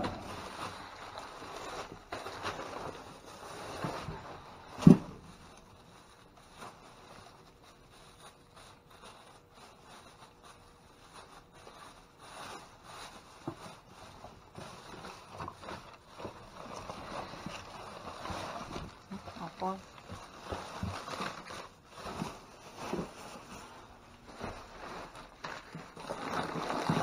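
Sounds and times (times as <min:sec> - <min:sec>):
rustling and scraping: 0:00.0 - 0:27.0.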